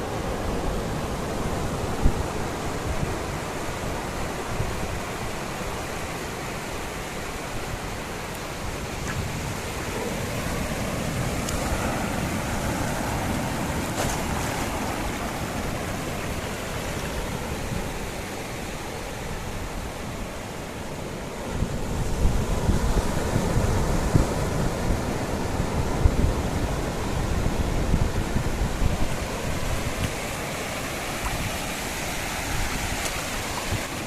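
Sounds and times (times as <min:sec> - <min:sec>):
surf washing onto beach: 0:00.0 - 0:34.0
wind buffeting microphone: 0:06.7 - 0:34.0.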